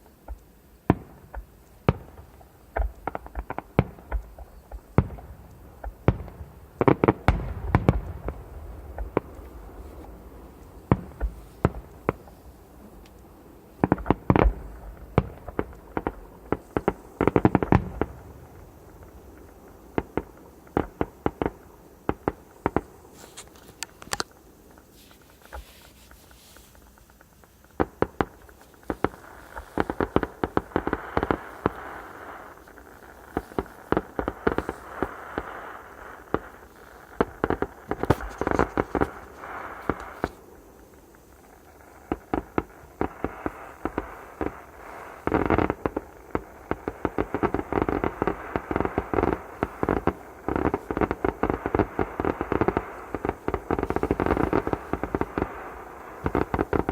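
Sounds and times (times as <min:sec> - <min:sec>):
fireworks bangs and pops: 0:00.0 - 0:56.9
fireworks rushing hiss: 0:00.0 - 0:56.9.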